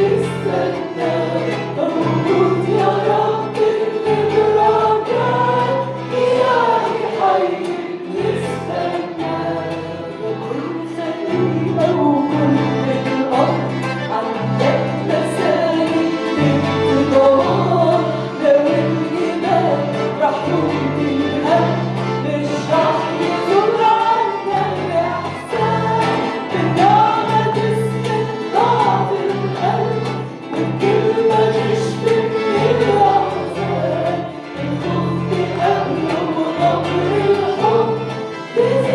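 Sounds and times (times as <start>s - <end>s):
band playing: 0.0s - 38.9s
voices singing a worship song: 0.0s - 38.9s.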